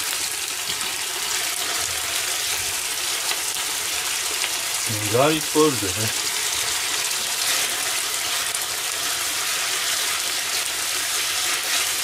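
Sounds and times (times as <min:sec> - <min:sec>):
spaghetti sizzling in a pan: 0:00.0 - 0:12.0.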